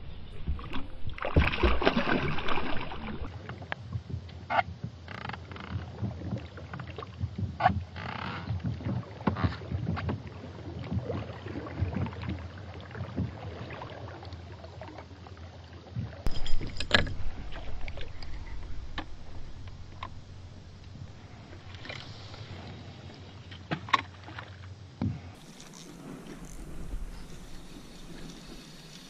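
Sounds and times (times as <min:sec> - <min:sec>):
water lapping against kayak hull: 0:00.0 - 0:29.0.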